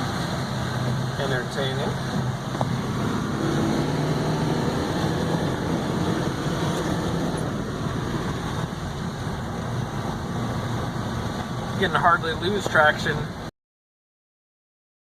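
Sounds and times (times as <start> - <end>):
truck engine running: 0.0 - 13.4.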